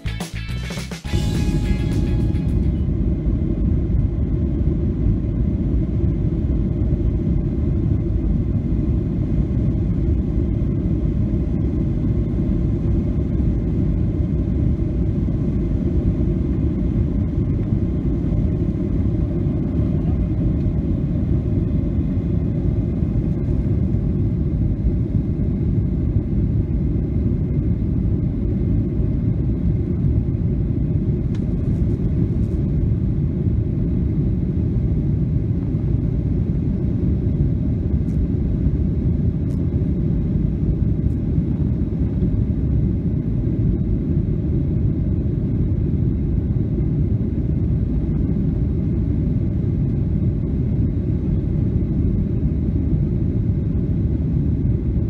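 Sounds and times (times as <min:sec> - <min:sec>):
jet engines rumbling in cabin: 0:01.1 - 0:55.0.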